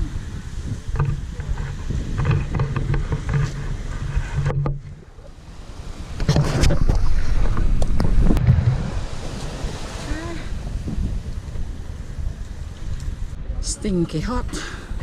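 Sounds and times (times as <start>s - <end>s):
surf on shore: 0.0s - 15.0s
wind buffeting microphone: 0.0s - 15.0s.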